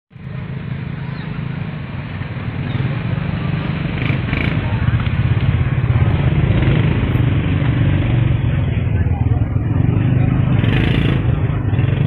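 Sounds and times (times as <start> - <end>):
engine rumbling: 0.1 - 12.0
faint voices: 0.2 - 12.0.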